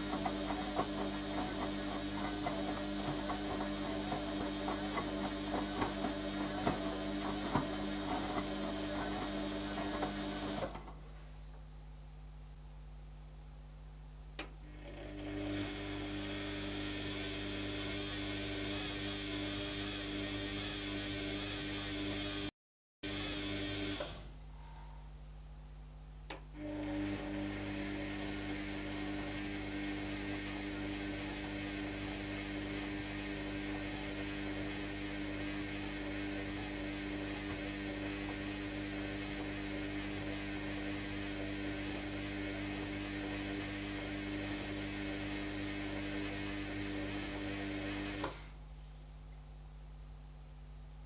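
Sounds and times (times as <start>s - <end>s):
washing machine drum humming: 0.0s - 11.1s, 14.3s - 22.5s, 26.2s - 48.4s.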